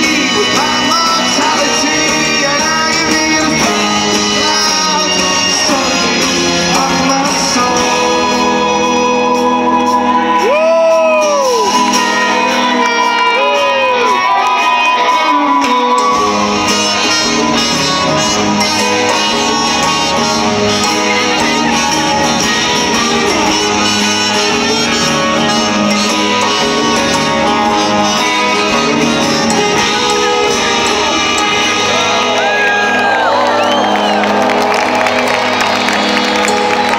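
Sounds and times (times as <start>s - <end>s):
electric guitars: 0.0s - 36.9s
live rock band playing: 0.0s - 36.9s.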